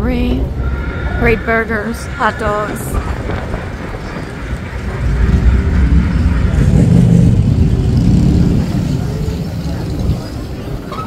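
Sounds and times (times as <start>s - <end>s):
tram engine rumbling: 0.0s - 11.0s.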